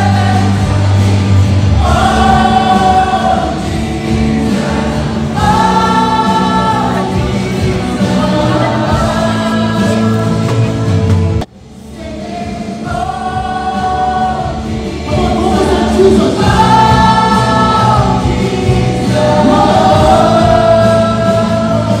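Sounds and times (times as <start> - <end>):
choir singing long notes: 0.0 - 11.0, 11.8 - 22.0.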